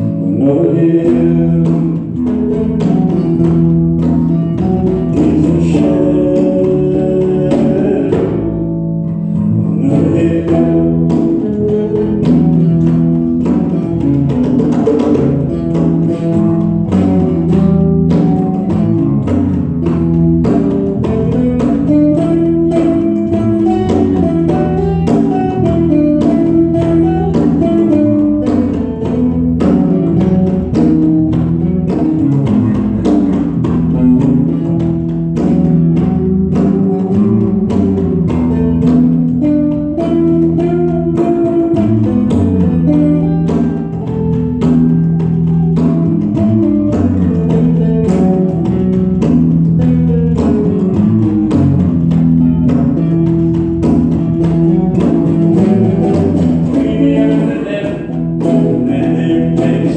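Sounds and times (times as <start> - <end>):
electric bass: 0.0 - 59.9
electric guitar: 0.0 - 59.9.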